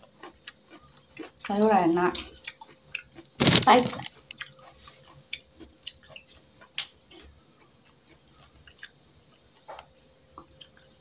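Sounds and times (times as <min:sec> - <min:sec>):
cricket trill: 0:00.0 - 0:11.0
soft chewing: 0:00.0 - 0:11.0.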